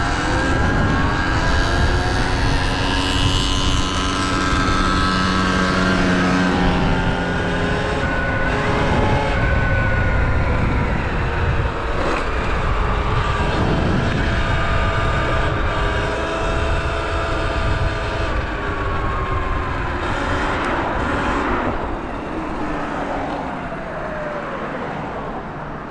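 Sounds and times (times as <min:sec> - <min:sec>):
heavy low rumble: 0:00.0 - 0:23.9
dirt bike engines running: 0:00.0 - 0:24.4.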